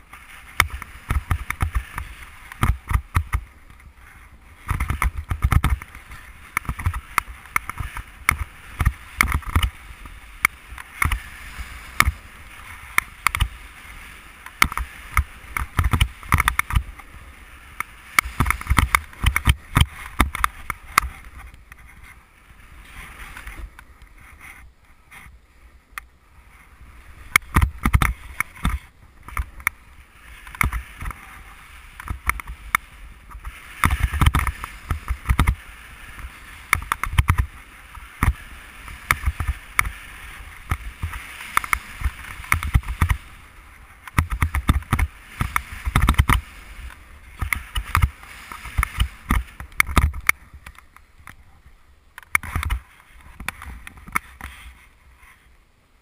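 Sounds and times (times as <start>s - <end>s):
snowboard scraping over snow: 0.0s - 55.6s
wind rumbling on microphone: 0.0s - 56.0s.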